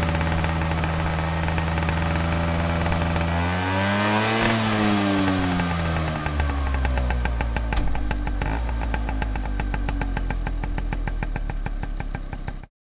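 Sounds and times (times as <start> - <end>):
scooter engine idling: 0.0 - 12.7.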